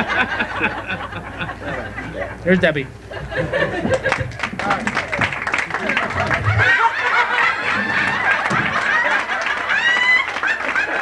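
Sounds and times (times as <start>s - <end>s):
crowd calling out and laughing: 0.0s - 11.0s.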